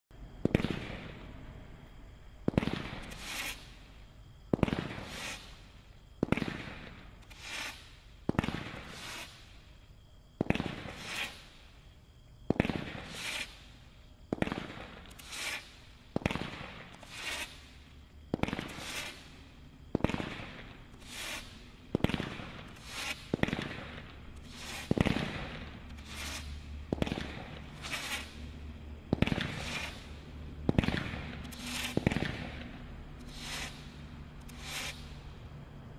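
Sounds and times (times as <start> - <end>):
fireworks shots bursting: 0.4 - 1.5, 2.4 - 9.8, 10.4 - 11.8, 12.4 - 35.4.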